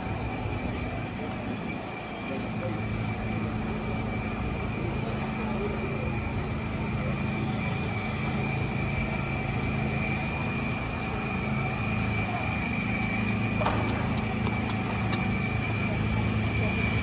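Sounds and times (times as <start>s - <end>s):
large vehicle engine running: 0.0s - 17.0s.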